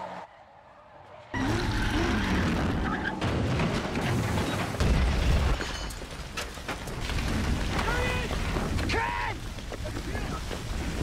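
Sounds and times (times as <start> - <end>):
fire rumbling: 1.7 - 11.0.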